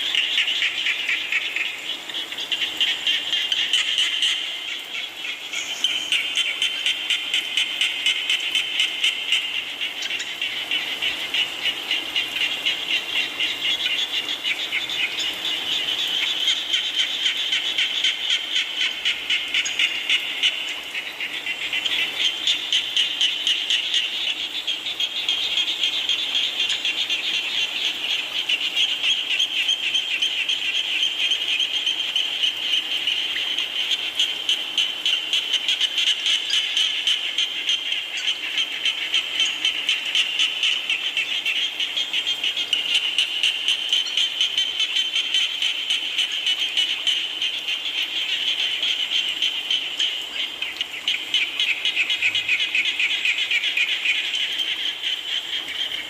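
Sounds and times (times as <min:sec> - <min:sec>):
falling rain hiss: 0:00.0 - 0:56.0
frogs chorus trilling: 0:00.0 - 0:56.0.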